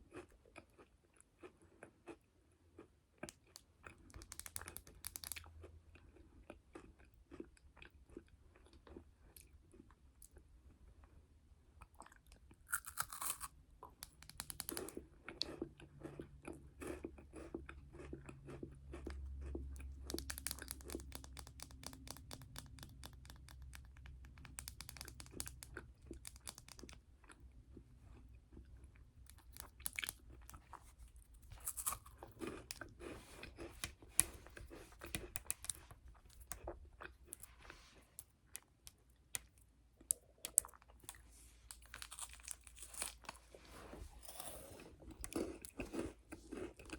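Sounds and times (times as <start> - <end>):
chewing and crunching snack: 0.0 - 46.9.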